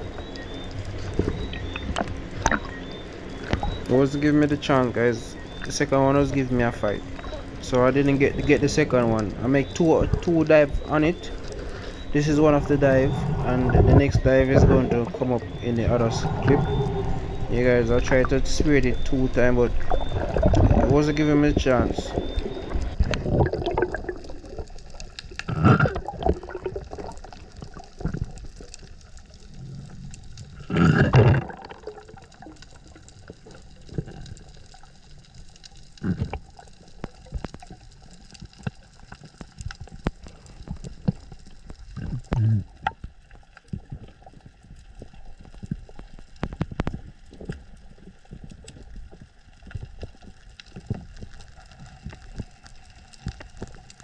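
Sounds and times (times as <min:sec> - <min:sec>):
underwater crackle of clicks: 0:00.0 - 0:54.0
water rushing and bubbling: 0:00.0 - 0:54.0.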